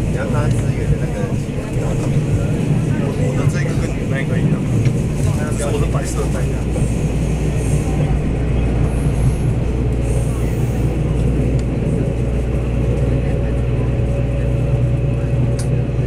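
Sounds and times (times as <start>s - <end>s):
diesel engine low drone: 0.0s - 16.0s
train wheels on rails: 0.0s - 16.0s.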